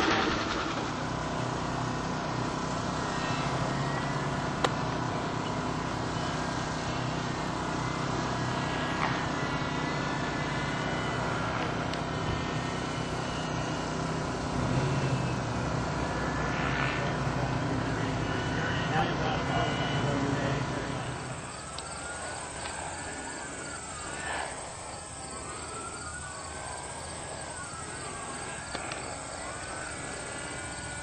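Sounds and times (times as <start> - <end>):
engine droning: 0.0 - 31.0.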